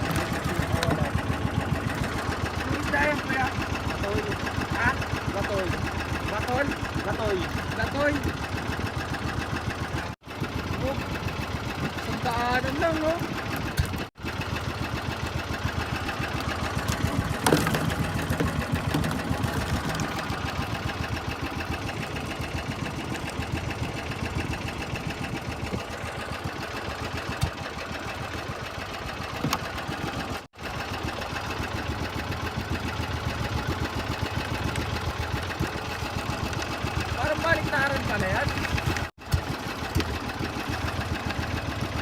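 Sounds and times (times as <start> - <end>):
boat engine chugging: 0.0 - 42.0.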